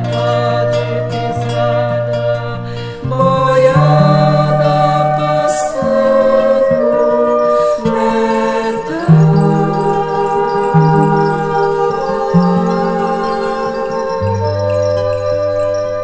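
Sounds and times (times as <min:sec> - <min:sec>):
acoustic guitar: 0:00.0 - 0:16.0
person singing long notes: 0:00.0 - 0:16.0.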